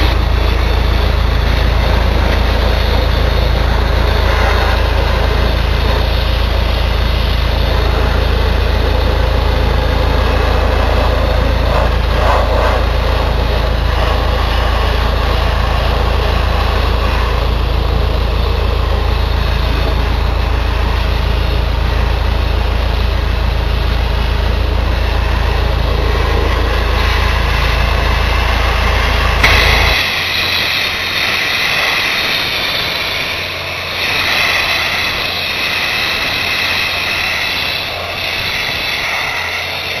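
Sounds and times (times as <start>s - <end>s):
low engine drone: 0.0s - 40.0s
sandblast nozzle hiss: 0.0s - 40.0s.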